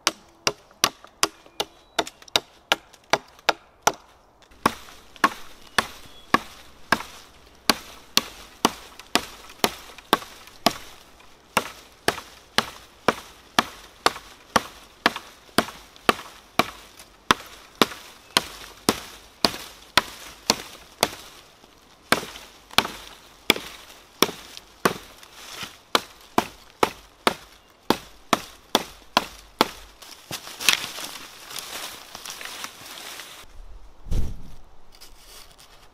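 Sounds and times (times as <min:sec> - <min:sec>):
hatchet chopping wood: 0:00.0 - 0:21.4, 0:22.0 - 0:31.2.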